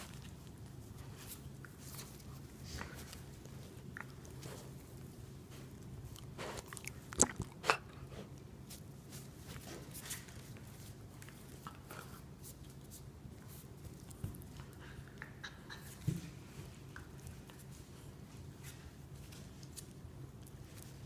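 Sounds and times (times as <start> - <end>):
dogs scuffling and mouthing: 0.0 - 7.2, 8.5 - 21.0.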